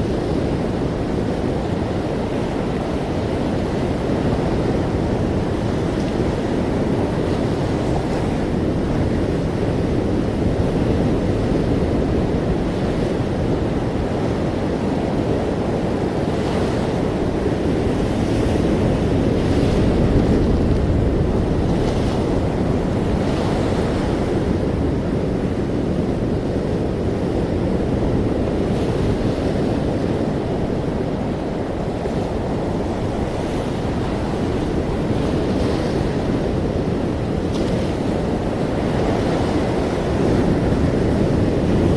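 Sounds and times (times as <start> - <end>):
ocean waves washing ashore: 0.0 - 41.9.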